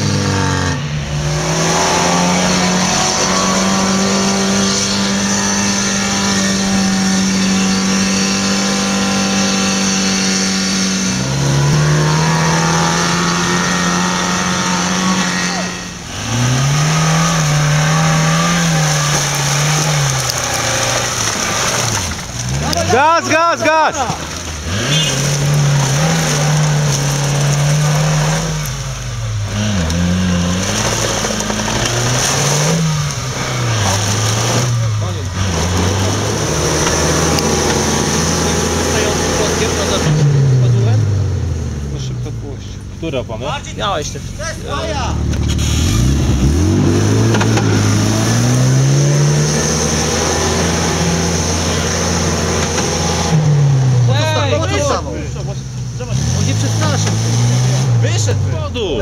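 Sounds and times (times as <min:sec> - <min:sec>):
engine revving hard: 0:00.0 - 0:41.2, 0:44.6 - 0:59.0.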